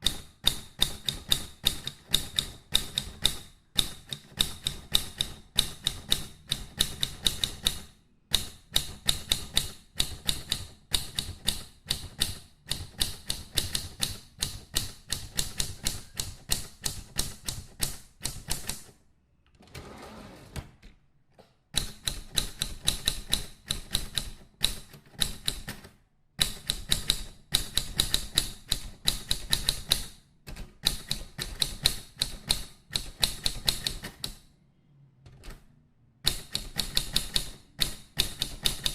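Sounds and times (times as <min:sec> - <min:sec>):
mechanical typewriter typing: 0:00.0 - 0:19.0, 0:21.7 - 0:34.5, 0:36.2 - 0:38.9.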